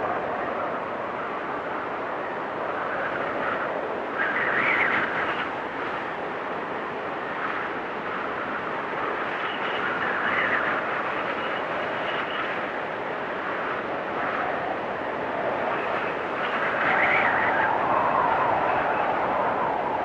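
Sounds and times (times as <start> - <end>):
storm wind blowing hard: 0.0 - 20.0.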